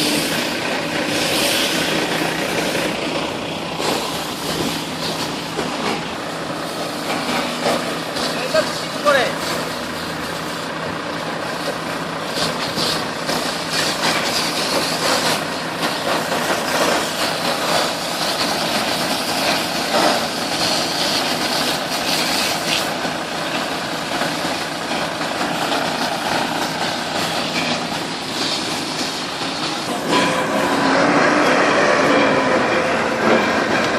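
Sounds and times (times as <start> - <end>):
pile driver engine running: 0.0 - 33.9.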